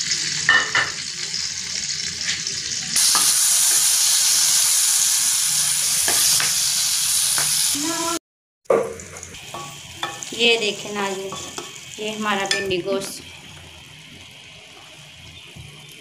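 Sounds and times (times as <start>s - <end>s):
chillies sizzling in hot oil: 0.0s - 8.2s, 8.9s - 16.0s.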